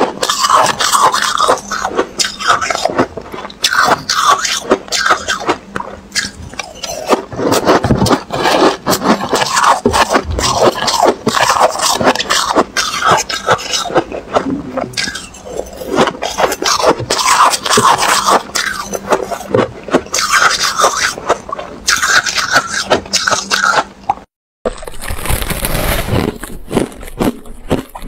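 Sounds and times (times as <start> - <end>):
crushed ice being chewed: 0.0 - 24.0, 24.7 - 28.0.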